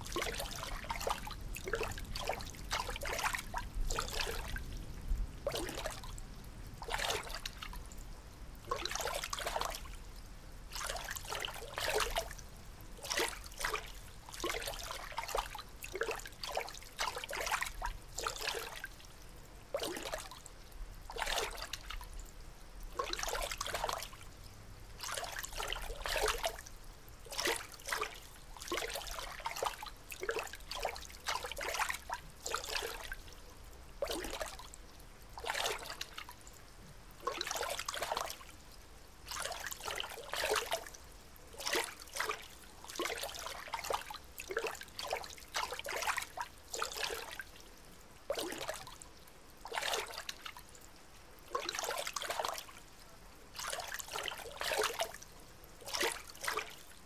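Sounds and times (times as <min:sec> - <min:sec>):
water lapping and trickling: 0:00.0 - 0:57.0.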